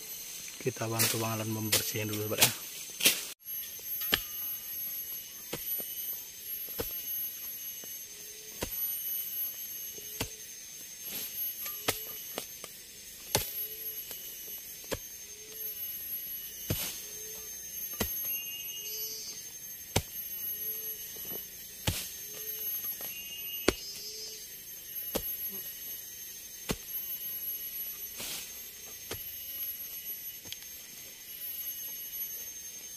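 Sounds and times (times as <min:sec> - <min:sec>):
forest insects droning: 0:00.0 - 0:32.9
hand tool striking ground: 0:00.6 - 0:10.4, 0:11.0 - 0:26.0, 0:26.6 - 0:32.5.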